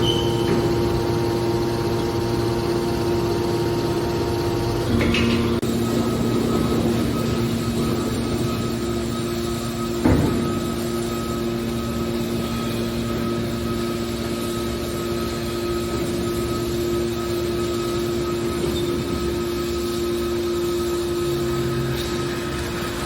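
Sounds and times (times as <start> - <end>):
hydraulic press motor hum: 0.0 - 23.0.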